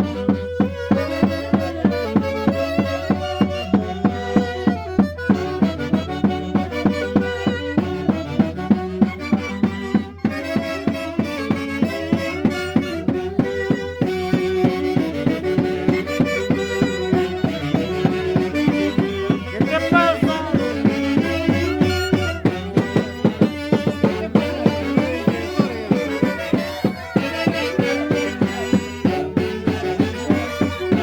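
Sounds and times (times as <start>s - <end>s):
quick steady drum beat: 1.4s - 31.0s
band playing dance music: 5.9s - 31.0s.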